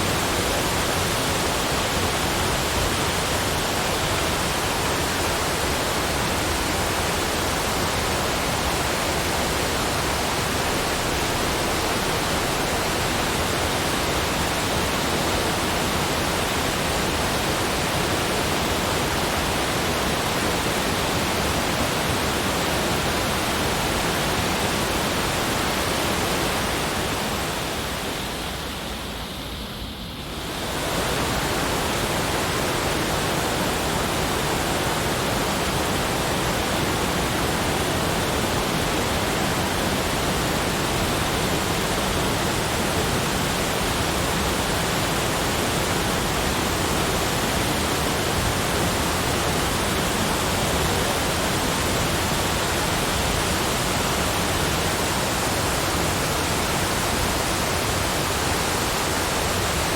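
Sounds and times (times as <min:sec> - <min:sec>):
steady rushing noise: 0:00.0 - 0:59.9.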